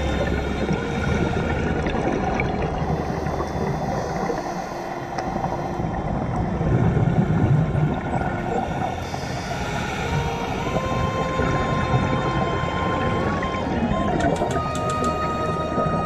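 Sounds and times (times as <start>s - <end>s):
low underwater rush: 0.0s - 16.0s
underwater hum: 0.0s - 16.0s.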